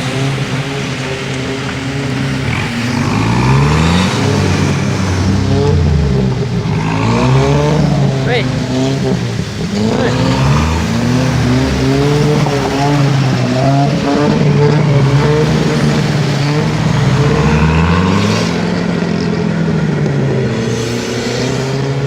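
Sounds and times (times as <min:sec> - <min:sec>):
vehicle engine revving hard: 0:00.0 - 0:22.0.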